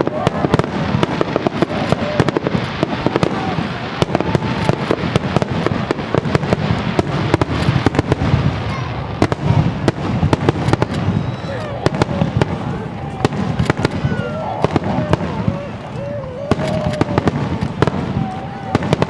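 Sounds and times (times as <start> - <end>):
firework bangs: 0.0 - 19.0
firework crackle: 0.0 - 19.0.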